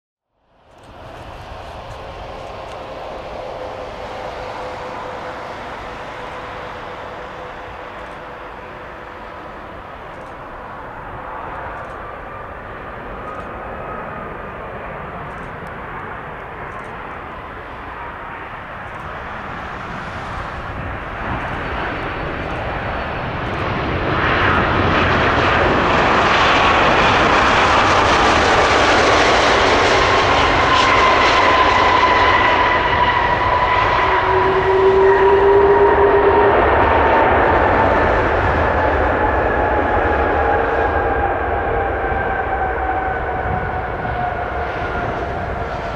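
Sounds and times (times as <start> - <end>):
jet engines whining: 0.7 - 45.9.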